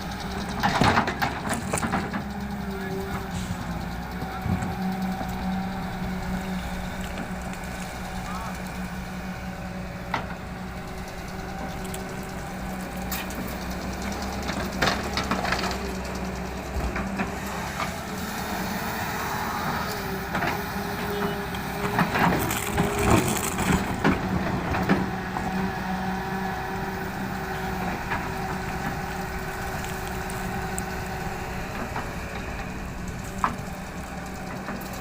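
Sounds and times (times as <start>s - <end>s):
diesel engine running: 0.0s - 35.0s
gravel clattering: 0.1s - 18.2s, 19.8s - 35.0s.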